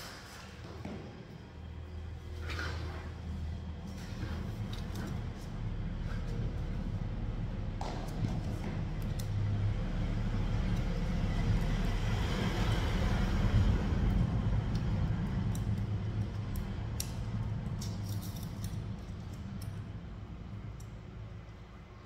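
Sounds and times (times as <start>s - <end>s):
low steady rumble with hiss: 1.2s - 22.0s.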